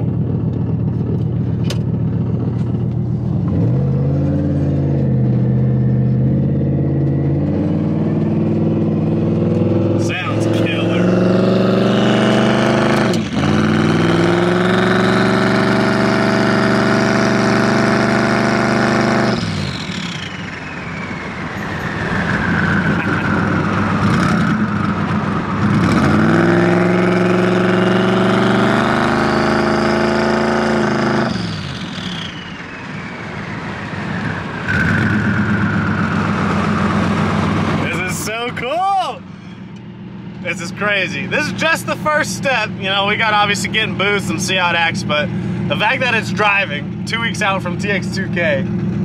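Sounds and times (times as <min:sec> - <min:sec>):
truck engine accelerating hard: 0:00.0 - 0:49.0.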